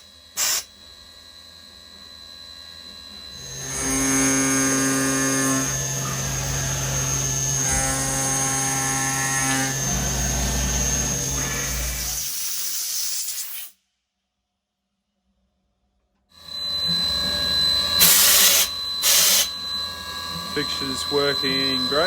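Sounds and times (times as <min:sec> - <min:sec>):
milling machine whine and hum: 0:00.0 - 0:12.3, 0:16.4 - 0:22.0.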